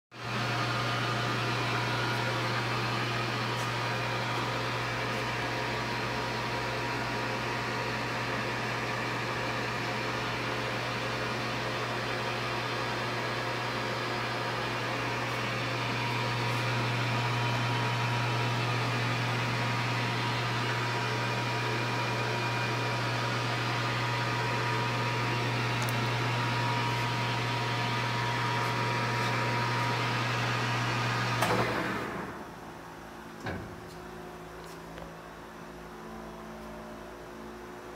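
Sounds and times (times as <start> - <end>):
lathe motor humming: 0.2 - 32.4.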